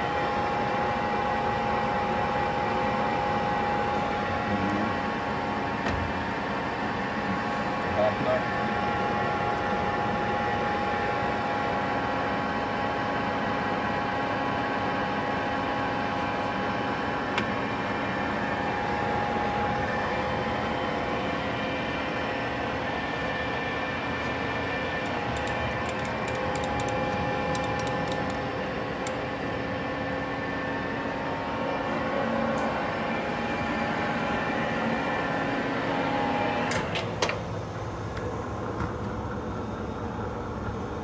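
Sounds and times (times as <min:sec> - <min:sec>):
lathe humming and whining: 0:00.0 - 0:41.0.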